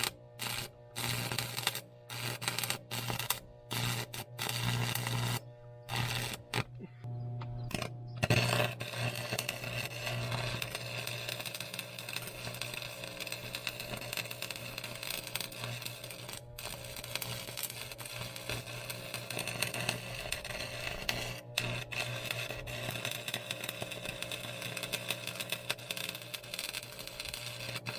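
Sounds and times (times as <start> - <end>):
electric arc welding crackle: 0.0 - 27.9
low electrical hum: 0.0 - 27.9.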